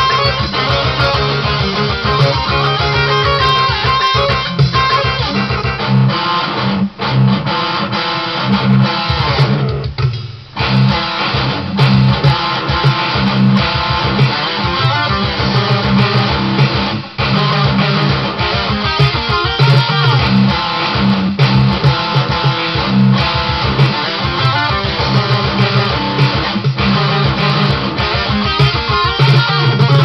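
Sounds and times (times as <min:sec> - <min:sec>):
electric guitar metal riff: 0:00.0 - 0:30.0.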